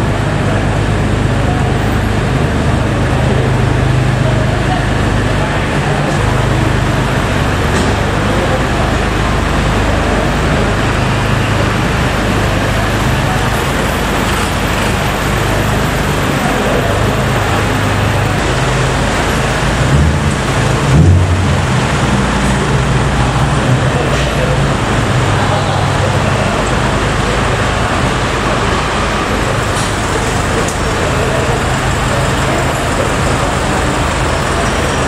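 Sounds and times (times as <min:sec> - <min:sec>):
deep engine hum: 0:00.0 - 0:35.0
traffic noise: 0:00.0 - 0:35.0.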